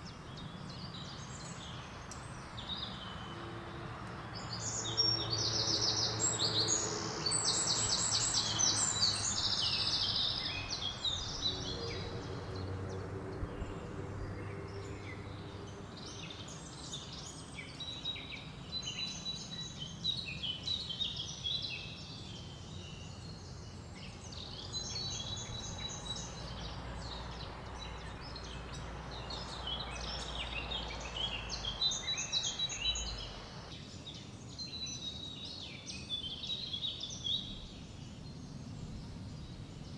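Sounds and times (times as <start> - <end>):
songbirds singing and calling: 0.0 - 39.9
wind through leaves: 0.0 - 39.9.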